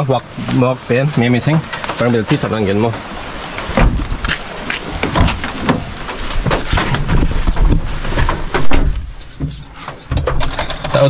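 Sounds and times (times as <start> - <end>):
rain: 0.0 - 9.2.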